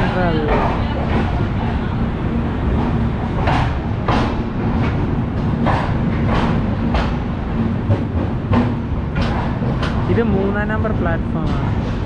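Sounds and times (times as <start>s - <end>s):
wheels clacking over rail joints: 0.0s - 10.6s
train rumbling: 0.0s - 12.0s.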